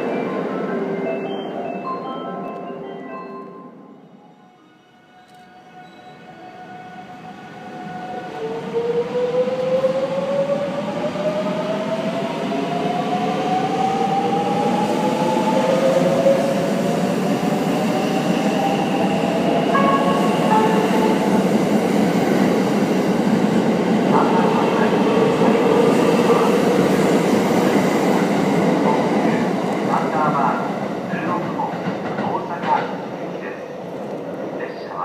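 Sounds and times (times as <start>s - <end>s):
train running noise: 3.9s - 35.0s.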